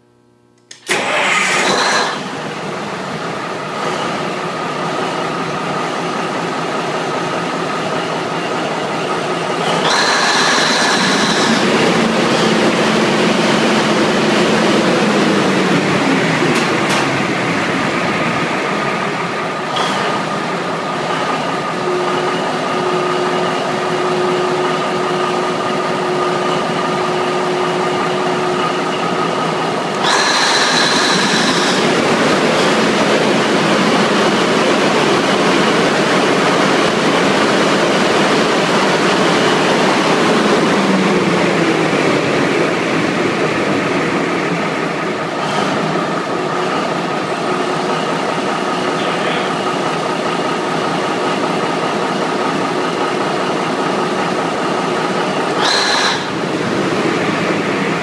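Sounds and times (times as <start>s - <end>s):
diesel engine starting and running: 0.0s - 58.0s
high engine whine: 0.0s - 58.0s.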